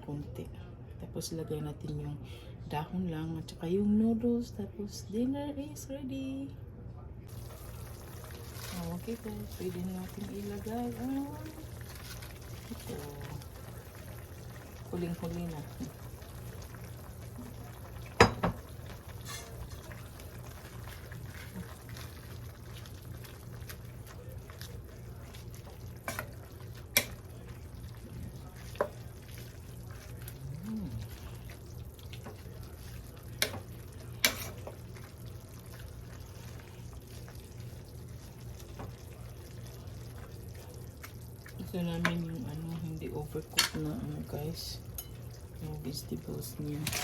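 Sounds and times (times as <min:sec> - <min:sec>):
soup cooking in a pot: 0:07.3 - 0:47.0.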